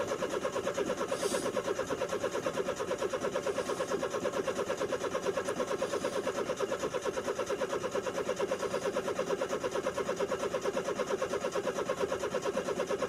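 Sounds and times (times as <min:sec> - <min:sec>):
engine running with rhythmic pulse: 0:00.0 - 0:13.0.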